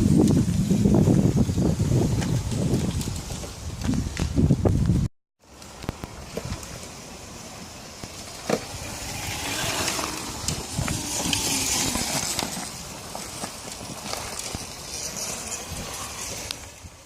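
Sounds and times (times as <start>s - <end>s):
dirt bike tyre and chain noise: 0.0s - 17.0s.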